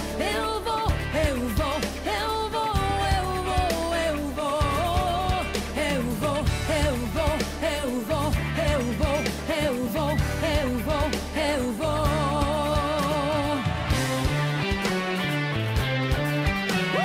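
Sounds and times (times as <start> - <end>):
person singing with wavering voice: 0.0 - 14.2
bass line: 0.0 - 17.0.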